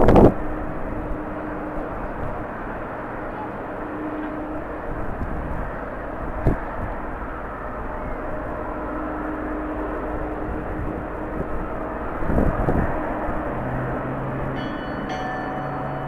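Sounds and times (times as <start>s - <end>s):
distant jet engines running: 0.0s - 16.0s
wind buffeting microphone: 0.0s - 16.0s.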